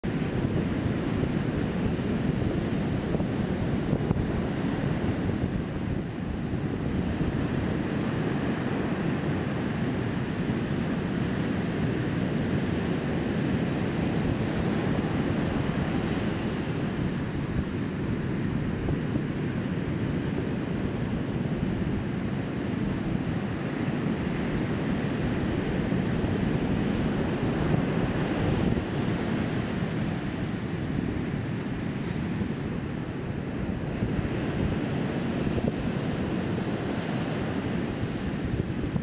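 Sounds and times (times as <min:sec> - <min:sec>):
ocean surf breaking on beach: 0:00.0 - 0:39.0
wind buffeting microphone: 0:00.0 - 0:39.0.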